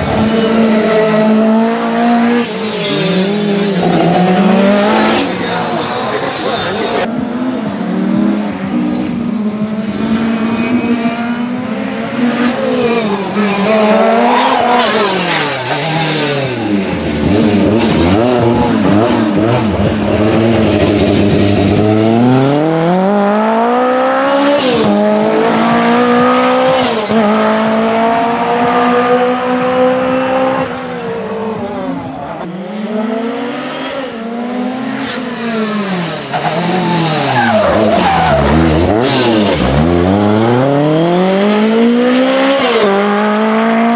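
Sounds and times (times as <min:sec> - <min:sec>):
car engine revving hard: 0:00.0 - 0:07.1, 0:07.9 - 0:30.8, 0:32.4 - 0:43.9.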